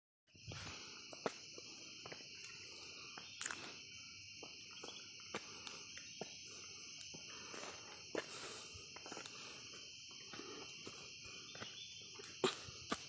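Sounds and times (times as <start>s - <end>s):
insect chorus: 0.3s - 13.0s.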